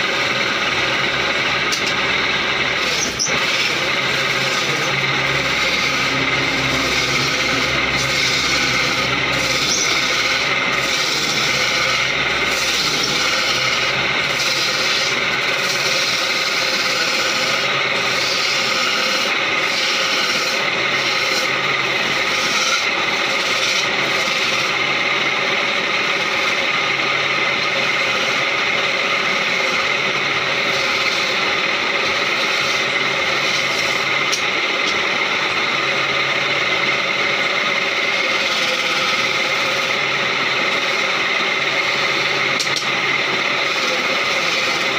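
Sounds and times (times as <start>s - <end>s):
chisel scraping spinning wood: 0.0s - 44.9s
wood lathe humming: 0.0s - 44.9s.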